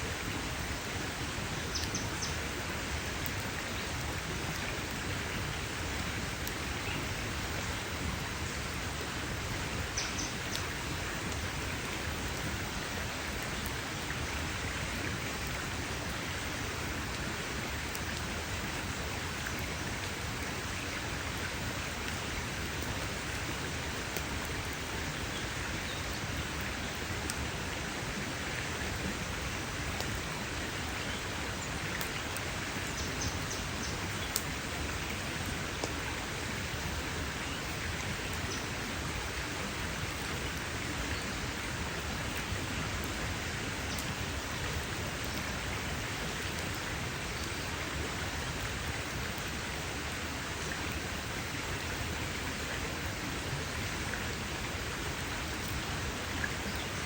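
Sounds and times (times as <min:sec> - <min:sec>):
campfire hissing: 0:00.0 - 0:57.0.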